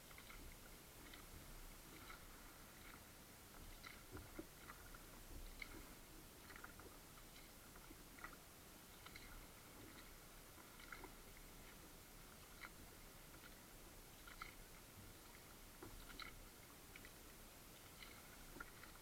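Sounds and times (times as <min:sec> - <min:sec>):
paddle dripping and ticking: 0:00.0 - 0:19.0
water lapping at hull: 0:00.0 - 0:19.0.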